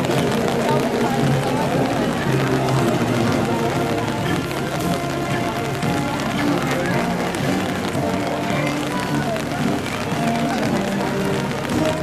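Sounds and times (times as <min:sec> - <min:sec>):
music with long held notes: 0:00.0 - 0:12.0
rain hissing: 0:00.0 - 0:12.0.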